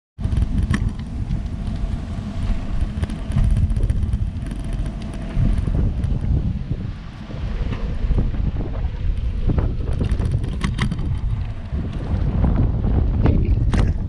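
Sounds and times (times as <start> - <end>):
wind buffeting microphone: 0.2 - 14.0.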